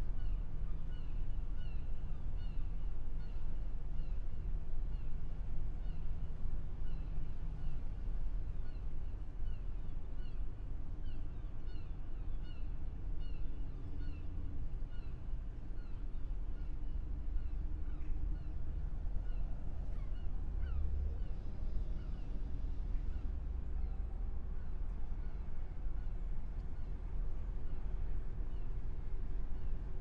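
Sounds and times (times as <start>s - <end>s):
low rumble of boats and water: 0.0s - 30.0s.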